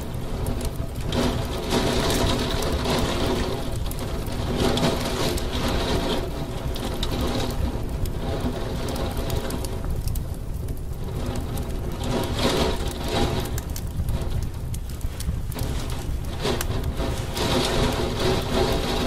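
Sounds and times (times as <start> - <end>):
heavy rain against a window: 0.0 - 19.0
raindrops ticking on glass: 0.0 - 19.0.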